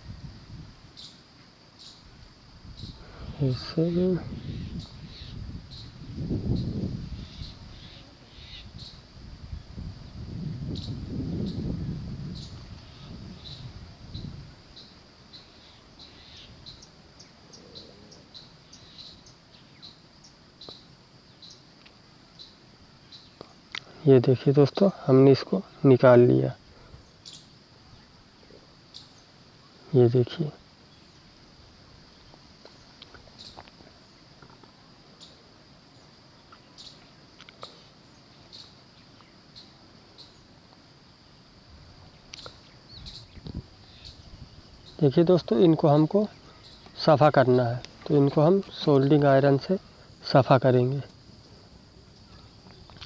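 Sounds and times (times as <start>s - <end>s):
cricket chirping faintly: 0.0s - 53.0s.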